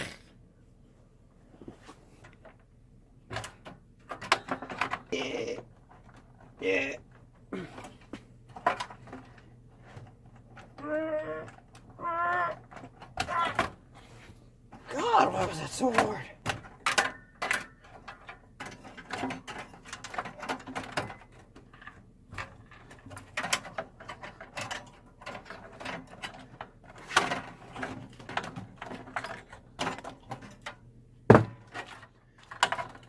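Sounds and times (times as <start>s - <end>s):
metal computer parts rattling: 3.3s - 10.8s, 12.6s - 30.8s, 31.4s - 33.0s.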